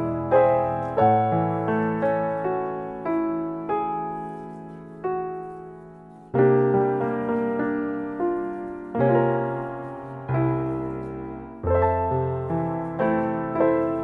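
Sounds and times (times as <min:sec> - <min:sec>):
slow gentle piano chords: 0:00.0 - 0:14.0.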